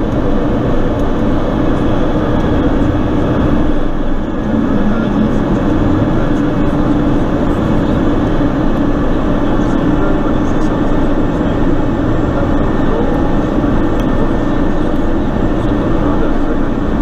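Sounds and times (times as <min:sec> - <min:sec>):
turboprop engine drone: 0:00.0 - 0:17.0.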